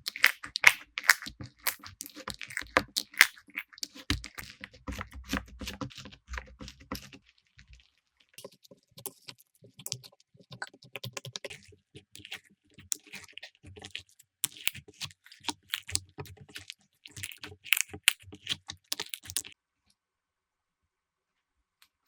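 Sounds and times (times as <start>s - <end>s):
slime squishing and crackling: 0.0s - 19.6s.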